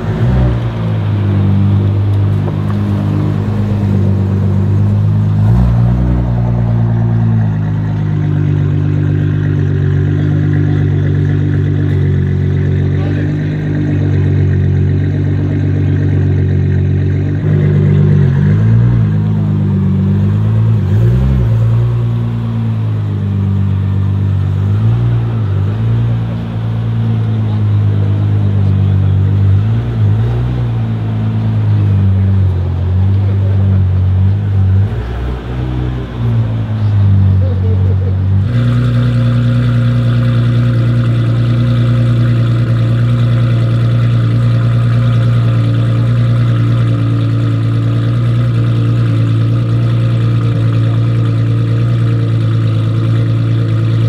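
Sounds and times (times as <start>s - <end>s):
car engines deep exhaust drone: 0.0s - 54.0s.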